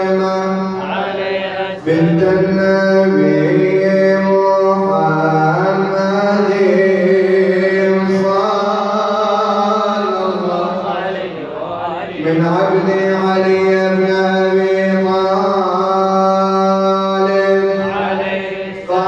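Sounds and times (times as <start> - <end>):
young men chanting unaccompanied: 0.0 - 19.0.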